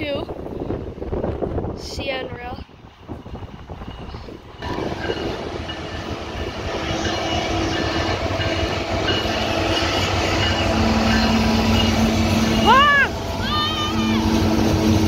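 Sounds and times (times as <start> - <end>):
diesel locomotive rumble: 0.0 - 15.0
wheels on rails: 0.0 - 15.0.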